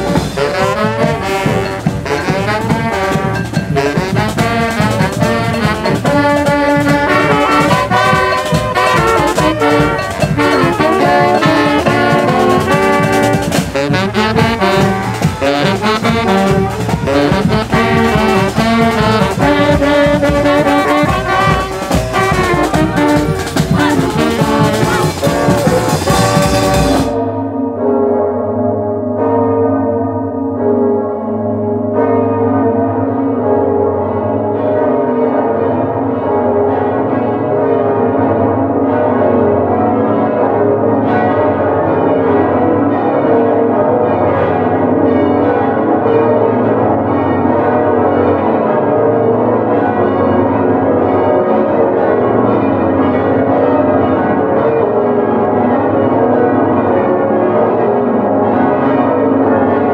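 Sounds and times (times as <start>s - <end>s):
bells ringing: 0.0s - 59.9s.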